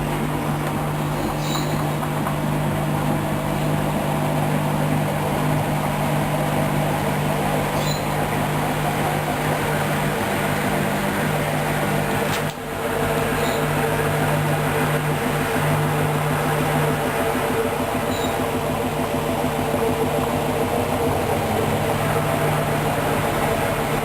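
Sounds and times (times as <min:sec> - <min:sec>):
washing machine spinning: 0:00.0 - 0:24.0.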